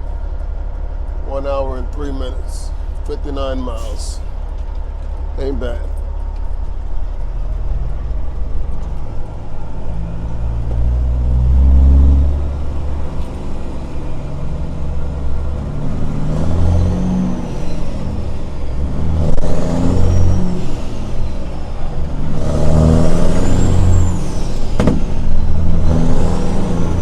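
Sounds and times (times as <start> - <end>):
truck diesel engine accelerating: 0.0 - 27.0.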